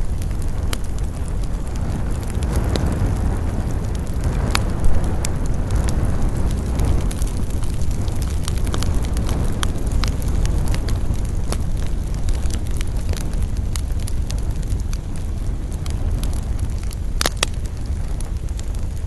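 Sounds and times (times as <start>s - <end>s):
fire popping and snapping: 0.0s - 19.0s
wood fire crackling: 0.0s - 19.0s.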